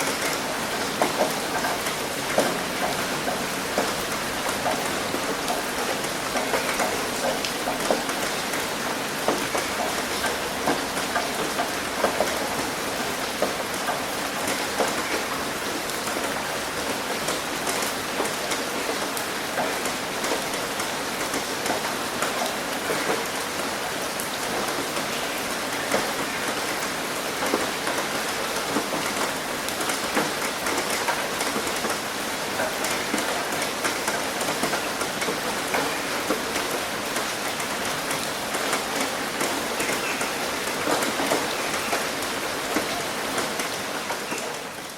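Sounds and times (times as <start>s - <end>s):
heavy rain on a roof: 0.0s - 44.9s
raindrops splashing on concrete: 0.0s - 44.9s.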